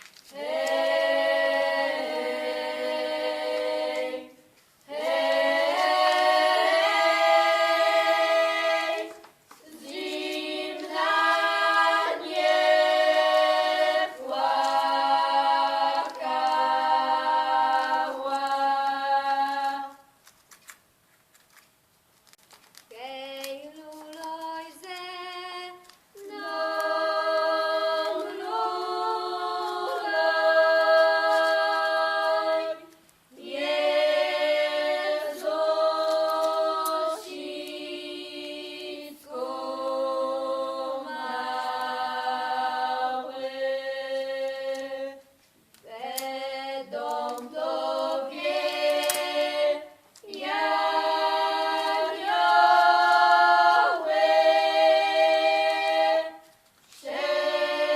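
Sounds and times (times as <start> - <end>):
a cappella choir singing: 0.3 - 20.1, 22.9 - 57.9.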